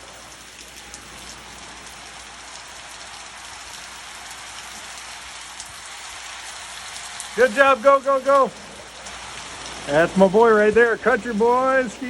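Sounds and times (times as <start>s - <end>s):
steady rain pattering: 0.0s - 12.0s.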